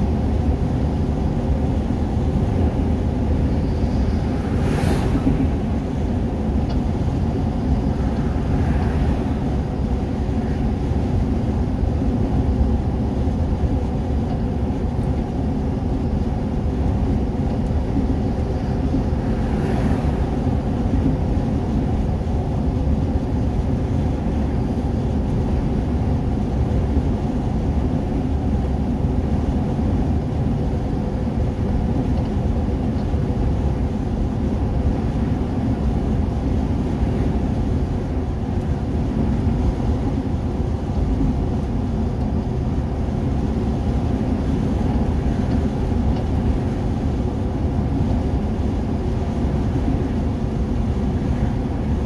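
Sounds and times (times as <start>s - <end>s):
car cabin engine and tyre drone: 0.0s - 52.0s.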